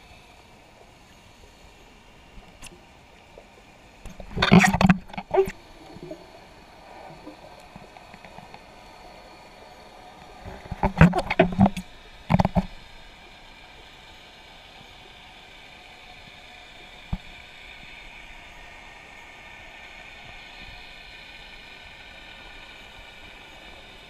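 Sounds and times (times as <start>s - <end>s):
faint steady hum: 0.0s - 24.0s
muffled underwater hiss: 0.0s - 24.0s.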